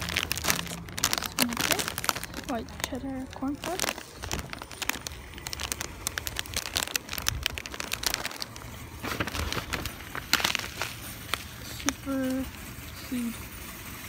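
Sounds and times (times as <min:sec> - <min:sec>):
low rumble: 0:00.0 - 0:12.9
plastic snack bags crinkling: 0:00.0 - 0:13.6.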